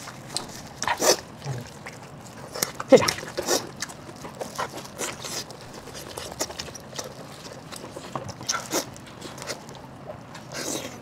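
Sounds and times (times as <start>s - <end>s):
mouth chewing and sucking: 0.0s - 11.0s.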